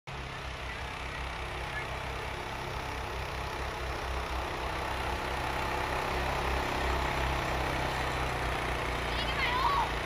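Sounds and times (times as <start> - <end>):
atv engine drone: 0.1 - 10.0.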